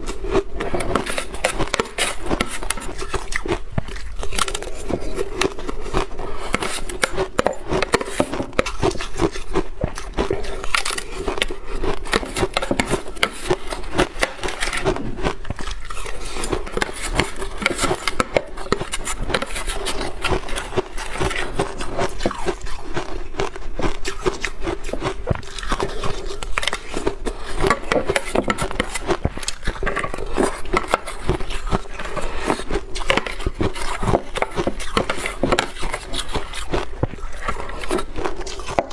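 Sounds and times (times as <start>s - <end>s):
spoon scraping plastic jug: 0.0s - 22.6s, 24.1s - 38.9s
crunching and chewing ice: 0.0s - 38.9s.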